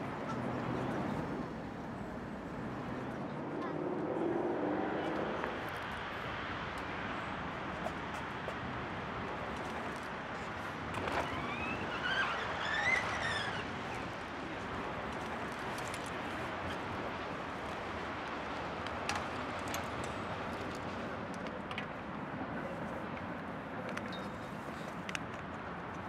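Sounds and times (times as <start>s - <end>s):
distant city traffic hum: 0.0s - 26.0s.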